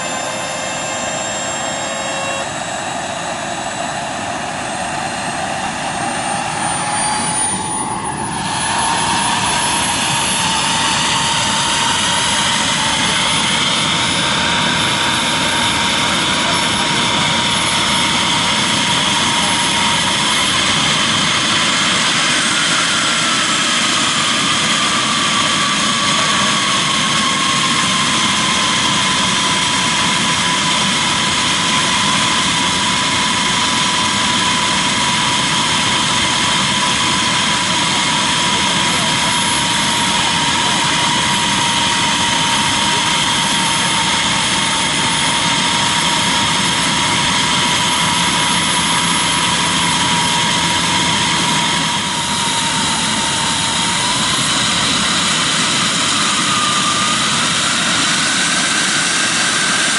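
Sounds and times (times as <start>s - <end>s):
model jet turbine whine: 0.0s - 59.9s.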